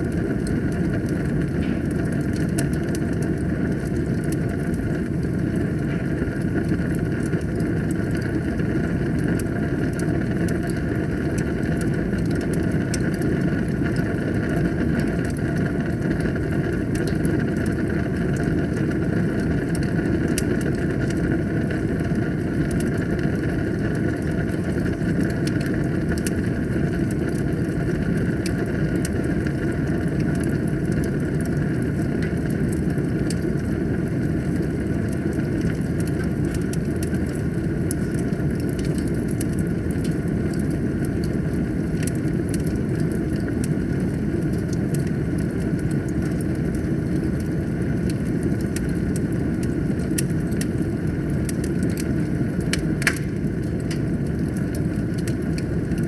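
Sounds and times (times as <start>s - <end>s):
fire crackling and popping: 0.0s - 56.0s
fire rumbling in fireplace: 0.0s - 56.0s.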